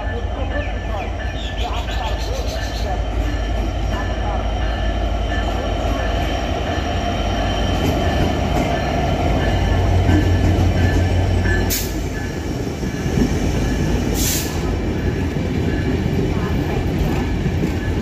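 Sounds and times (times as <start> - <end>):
locomotive engine rumble: 0.0 - 18.0
train wheel noise: 0.0 - 18.0.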